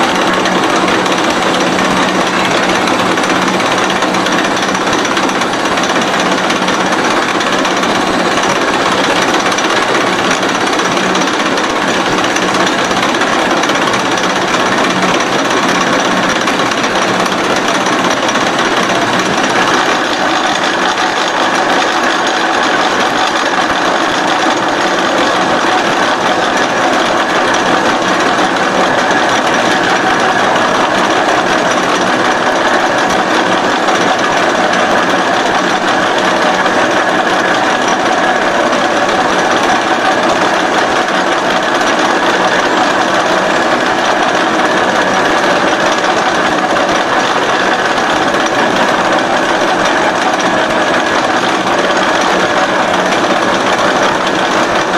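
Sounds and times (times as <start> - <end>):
milling machine running: 0.0 - 54.9.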